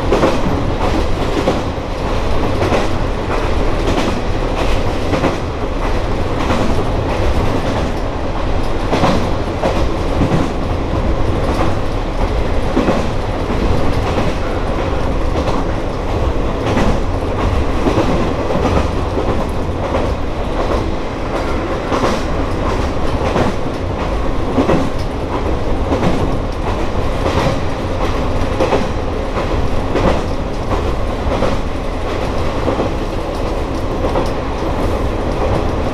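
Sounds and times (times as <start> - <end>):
train running rumble: 0.0 - 35.9
wheels clicking over rail joints: 0.0 - 35.9.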